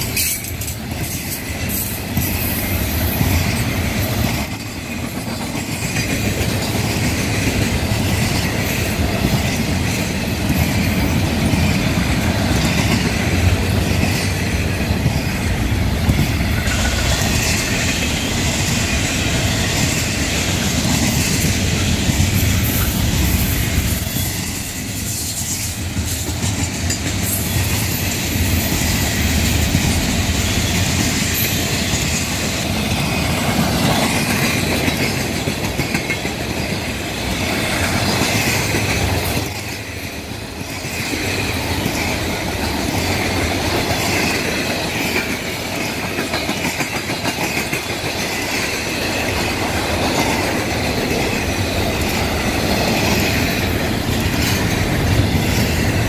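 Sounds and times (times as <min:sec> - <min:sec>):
freight cars rattling on rails: 0:00.0 - 0:56.0.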